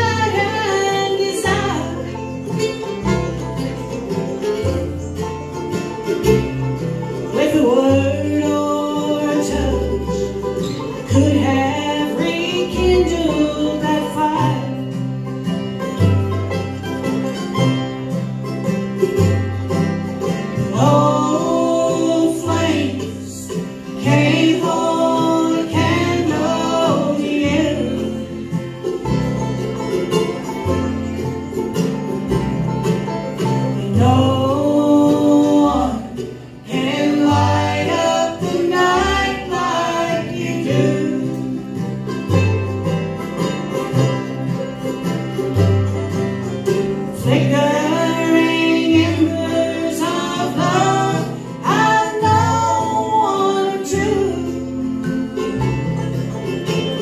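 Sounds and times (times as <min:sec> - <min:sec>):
bluegrass band playing: 0:00.0 - 0:57.0
upright bass: 0:00.0 - 0:57.0.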